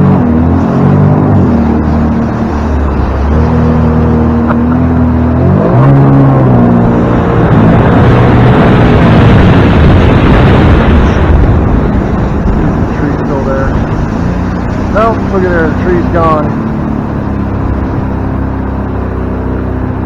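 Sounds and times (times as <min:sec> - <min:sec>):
loud rushing noise: 0:00.0 - 0:18.9
boat engine running: 0:00.0 - 0:20.0.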